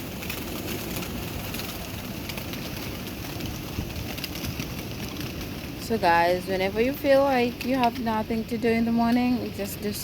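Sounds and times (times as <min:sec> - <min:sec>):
birds pecking small clicks: 0:00.0 - 0:09.9
outdoor background noise: 0:00.0 - 0:10.0.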